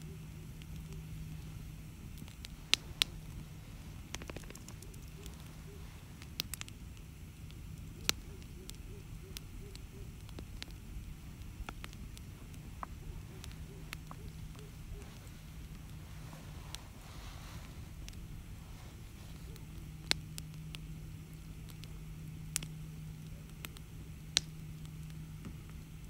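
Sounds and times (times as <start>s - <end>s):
burning logs popping: 0.0s - 26.0s
campfire crackling: 0.0s - 26.0s.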